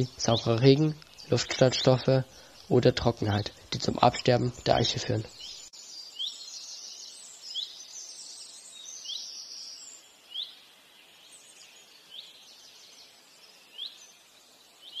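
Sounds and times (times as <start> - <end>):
birds twittering: 0.0 - 15.0.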